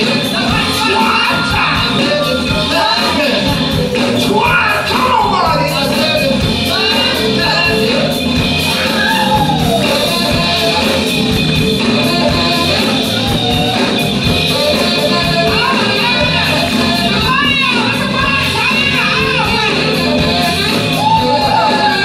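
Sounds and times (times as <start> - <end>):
congas: 0.0 - 22.0
drum kit: 0.0 - 22.0
person singing: 0.0 - 22.0.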